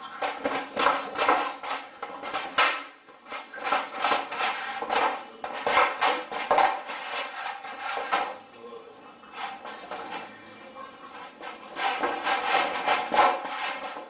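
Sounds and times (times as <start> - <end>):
plastic basin scraping stone floor: 0.0 - 8.4, 9.2 - 14.0.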